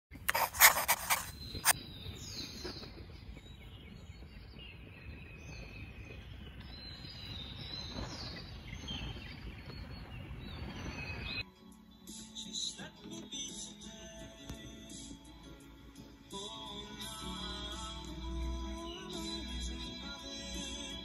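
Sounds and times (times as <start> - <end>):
birds chirping: 0.1 - 12.9, 13.5 - 21.0.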